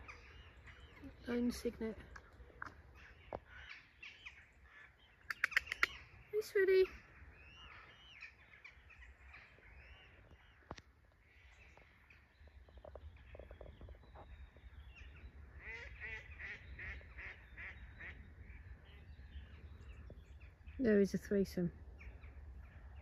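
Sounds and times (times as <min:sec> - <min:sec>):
faint bird calls: 0:00.0 - 0:21.3.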